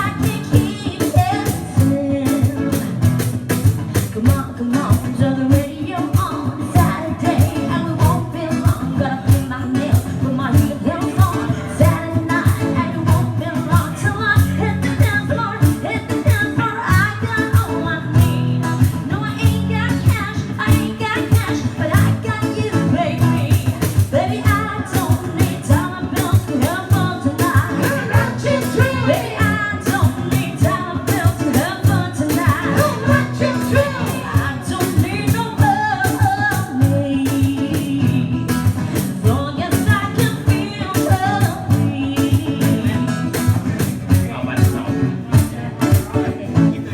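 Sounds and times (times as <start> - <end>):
person singing: 0.0 - 3.0, 4.1 - 43.8
drums beating: 0.0 - 46.9
live band playing: 0.0 - 46.9.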